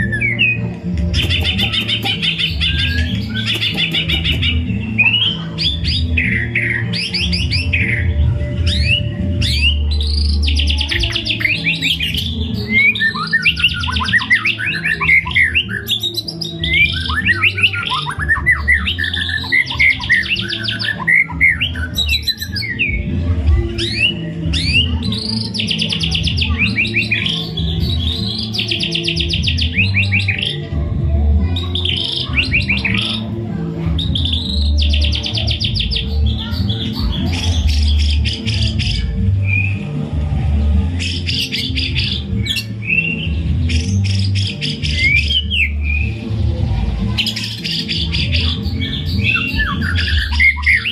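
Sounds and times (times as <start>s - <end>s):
songbird trills and whistles: 0.0s - 23.1s, 23.7s - 30.7s, 34.0s - 40.0s, 40.9s - 46.4s, 47.2s - 50.9s.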